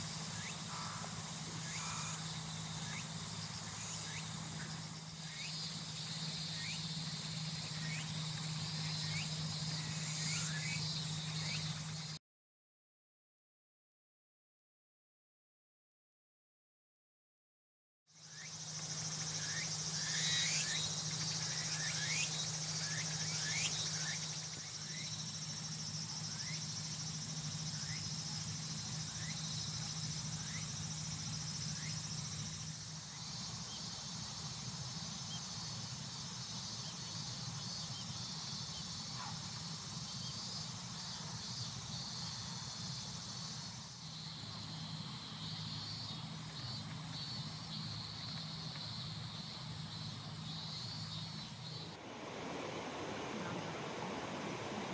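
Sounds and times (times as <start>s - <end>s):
insects trilling: 0.0s - 12.2s, 18.2s - 54.9s
steady low hum: 0.0s - 12.2s, 18.2s - 54.9s.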